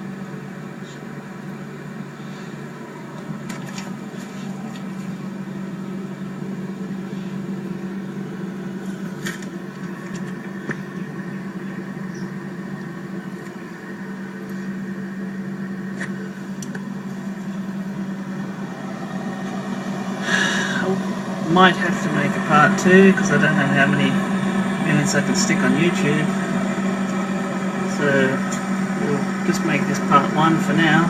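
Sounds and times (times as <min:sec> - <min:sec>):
refrigerator humming: 0:00.0 - 0:31.0.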